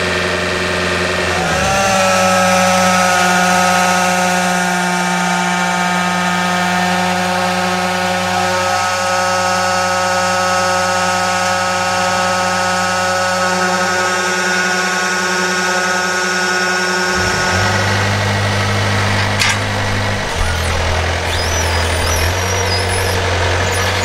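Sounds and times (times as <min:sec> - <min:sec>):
tractor engine low drone: 0:00.0 - 0:24.0
water pump high whine: 0:00.0 - 0:24.0.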